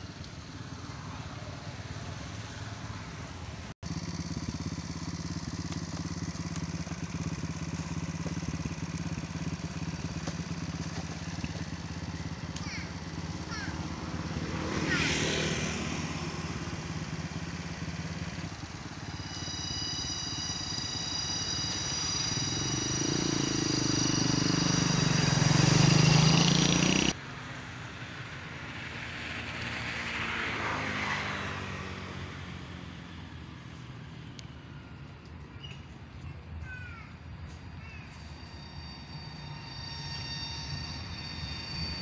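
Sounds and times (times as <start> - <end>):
motorbike engine passing: 0.0 - 34.4, 37.6 - 42.0.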